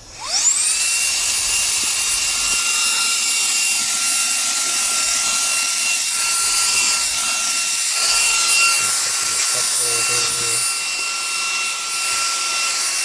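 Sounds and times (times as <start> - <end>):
handheld vacuum motor whine: 0.0 - 13.0.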